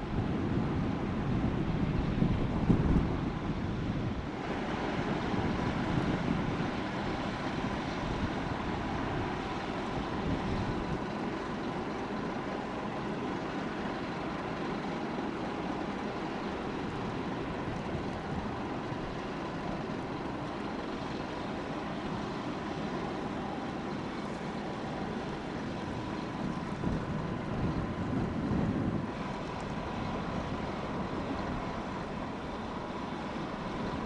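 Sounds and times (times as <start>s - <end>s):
wind gusts on microphone: 0.0s - 11.1s, 11.7s - 34.0s
faint steady whine: 0.0s - 34.0s
ship diesel engines droning: 0.0s - 34.0s.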